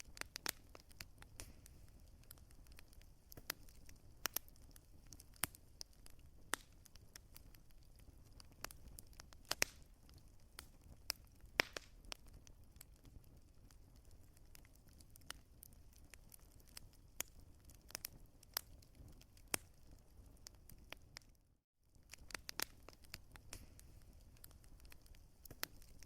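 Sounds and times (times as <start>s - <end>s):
low steady fire bed: 0.0s - 26.0s
wood fire popping: 0.0s - 26.0s.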